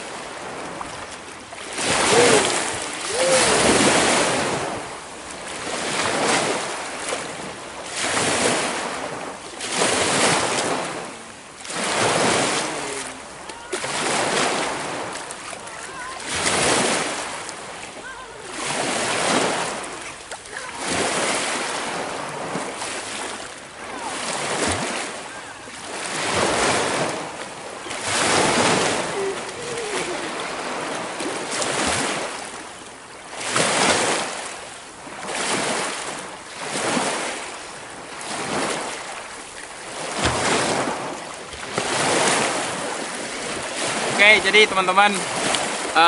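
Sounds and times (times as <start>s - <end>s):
lake waves on rocky shore: 0.0s - 46.0s.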